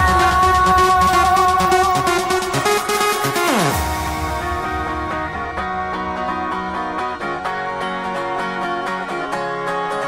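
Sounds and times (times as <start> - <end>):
synthesizer chords: 0.0 - 9.8.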